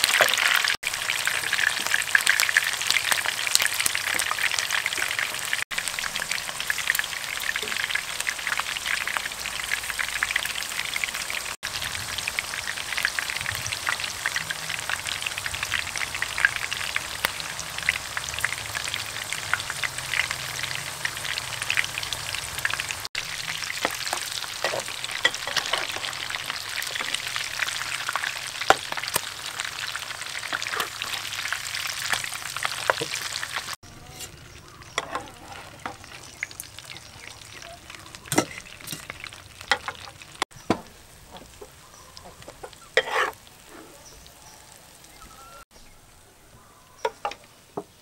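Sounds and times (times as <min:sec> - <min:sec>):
food sizzling in hot oil: 0:00.0 - 0:45.7.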